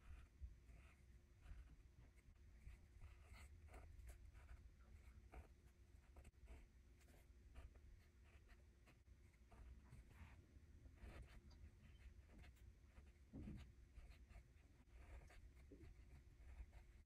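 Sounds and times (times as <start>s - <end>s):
pen scratching on paper: 0.0s - 17.0s.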